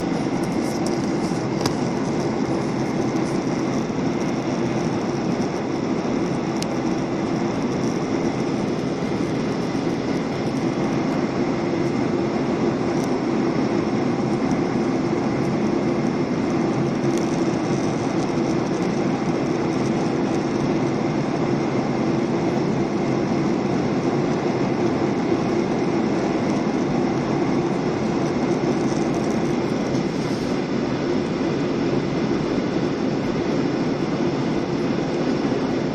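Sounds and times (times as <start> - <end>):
airliner cabin engine rumble: 0.0 - 35.9.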